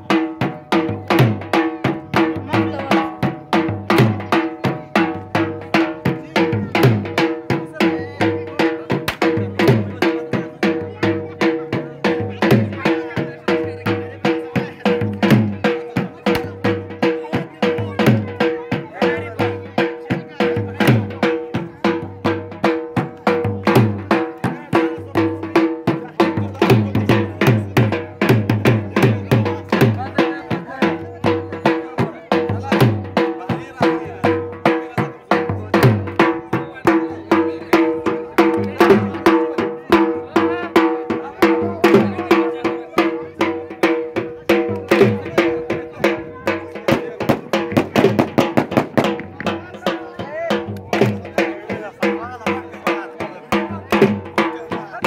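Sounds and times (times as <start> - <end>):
drum beating fast rhythm: 0.0 - 55.0.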